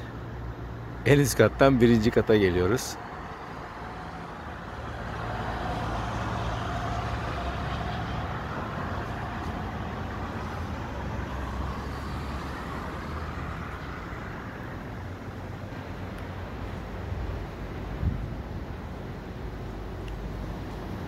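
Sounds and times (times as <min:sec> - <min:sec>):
vehicle engine and tyres passing: 0:00.0 - 0:21.0.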